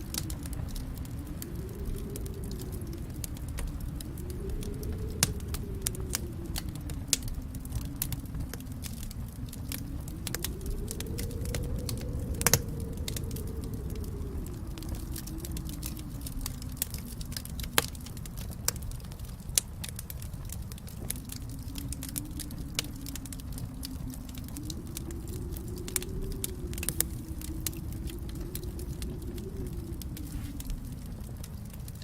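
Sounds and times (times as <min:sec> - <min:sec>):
low rumble of flame: 0:00.0 - 0:32.0
wood fire crackling and popping: 0:00.0 - 0:32.0.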